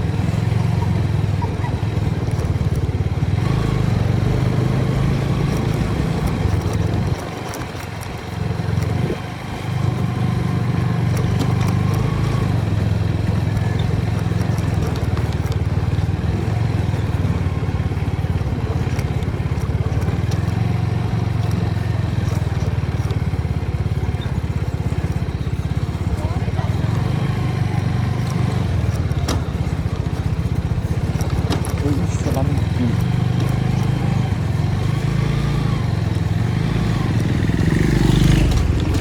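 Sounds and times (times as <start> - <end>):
motorcycle engine droning: 0.0 - 39.0.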